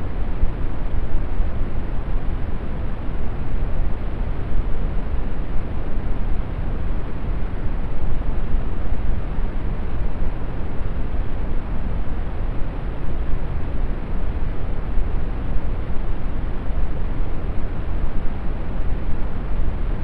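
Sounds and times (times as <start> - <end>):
brown noise hiss: 0.0 - 20.0.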